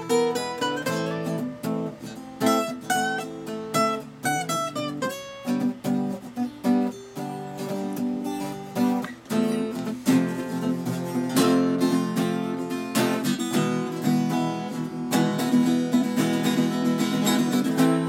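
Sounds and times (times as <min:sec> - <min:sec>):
acoustic guitars strumming: 0:00.0 - 0:18.0.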